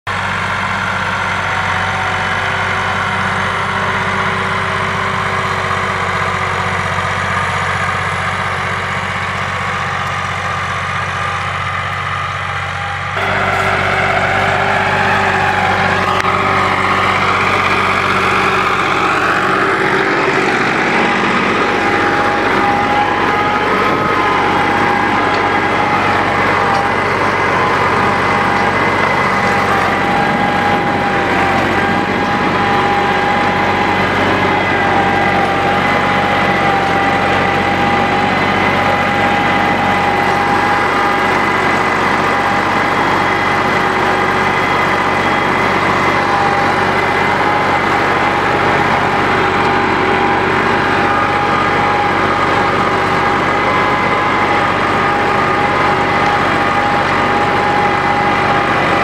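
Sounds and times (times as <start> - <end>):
tractor diesel engine under load: 0.0 - 59.0
high-pitched whine: 0.1 - 59.0.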